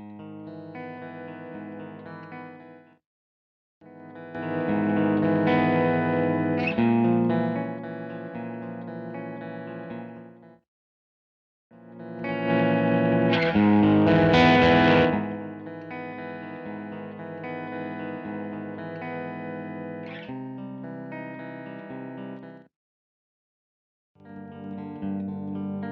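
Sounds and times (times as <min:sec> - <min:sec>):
electric guitar playing: 0:00.1 - 0:02.8, 0:03.8 - 0:10.3, 0:11.8 - 0:22.6, 0:24.3 - 0:25.9.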